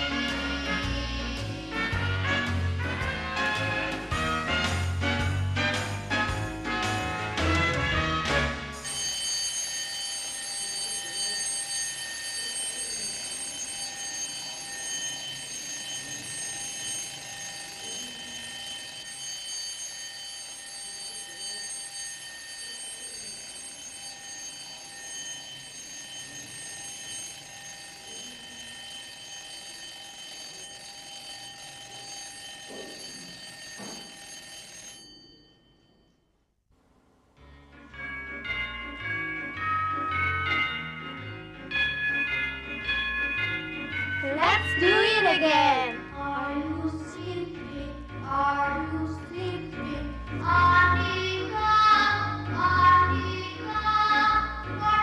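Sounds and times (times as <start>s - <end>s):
alarm clock ringing: 0.0s - 36.3s, 37.4s - 48.2s, 50.4s - 55.0s.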